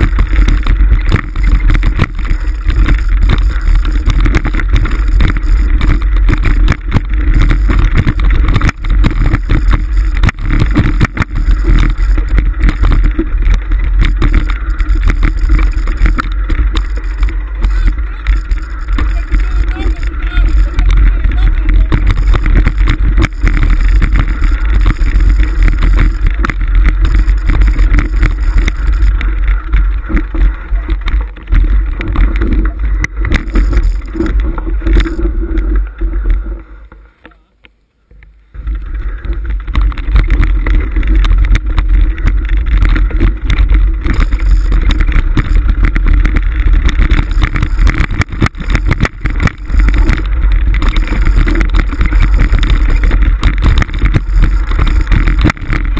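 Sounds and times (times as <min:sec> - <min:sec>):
stones rattling and knocking: 0:00.0 - 0:37.0, 0:38.5 - 0:55.9
wind rumble on microphone: 0:00.0 - 0:37.0, 0:38.5 - 0:55.9.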